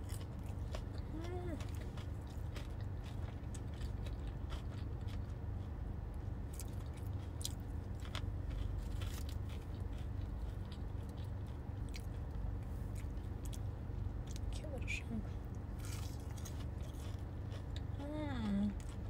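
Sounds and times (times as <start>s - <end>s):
person chewing food: 0.0s - 14.5s, 15.3s - 19.0s
steady low hum: 0.0s - 19.0s.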